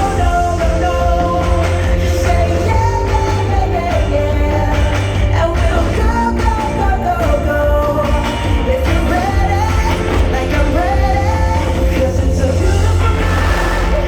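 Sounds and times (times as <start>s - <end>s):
pop song over loudspeakers: 0.0s - 14.0s.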